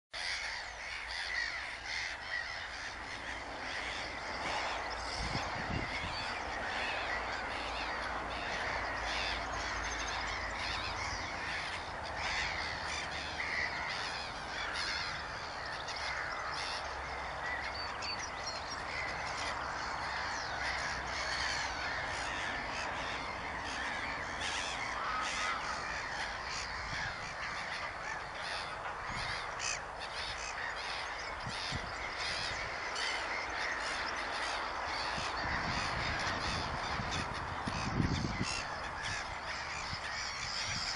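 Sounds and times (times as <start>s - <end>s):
chorus of birds calling: 0.2s - 40.9s.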